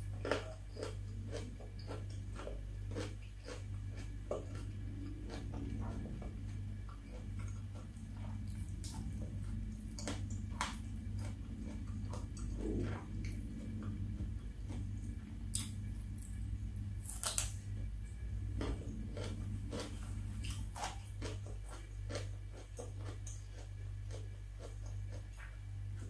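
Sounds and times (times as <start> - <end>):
chewing crunchy food: 0.0 - 26.0
low hum: 0.0 - 26.0.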